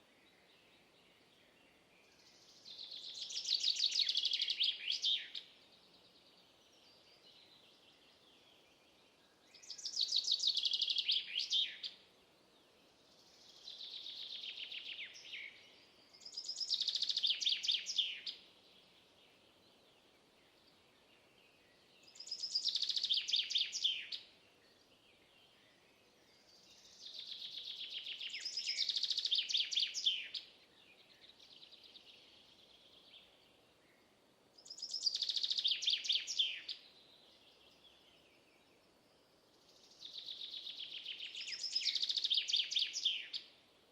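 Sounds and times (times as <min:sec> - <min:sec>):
faint steady hiss: 0:00.0 - 0:43.9
songbirds singing trilled phrases: 0:00.3 - 0:43.8.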